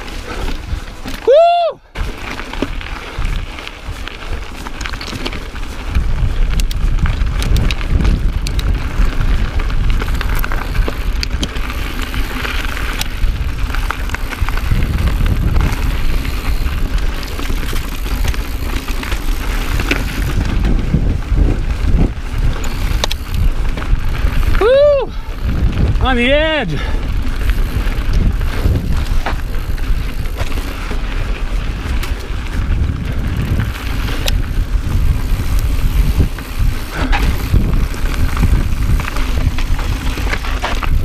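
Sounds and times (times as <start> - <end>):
bike clicks and rattles: 0.0 - 41.0
tyres rolling on gravel: 0.0 - 41.0
wind buffeting microphone: 0.0 - 41.0.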